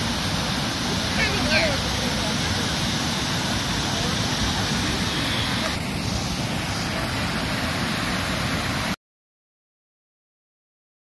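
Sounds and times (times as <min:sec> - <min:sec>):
water rushing over weir: 0:00.0 - 0:09.0.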